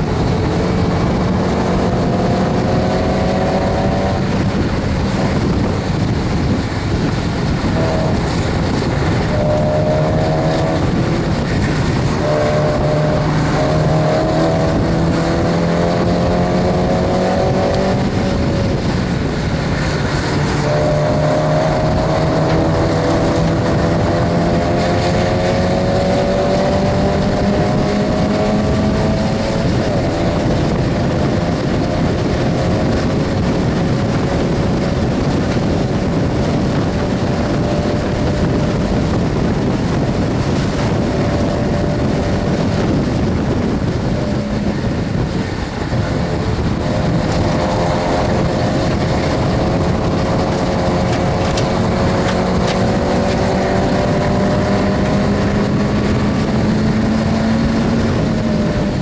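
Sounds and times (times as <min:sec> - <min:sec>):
car engine revving high: 0:00.0 - 0:59.0
wind and road noise: 0:00.0 - 0:59.0.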